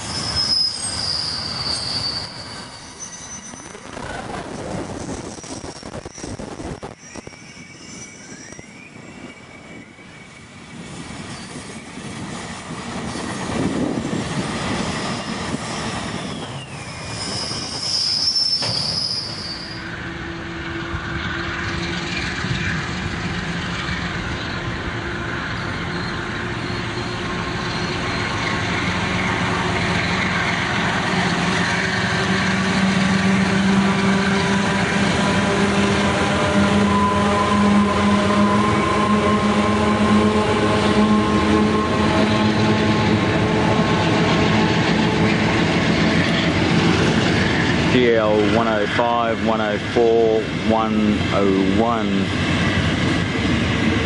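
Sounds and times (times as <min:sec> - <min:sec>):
train wheel squeal: 0:00.0 - 0:04.2, 0:04.8 - 0:52.8
diesel locomotive engines: 0:00.0 - 0:54.0.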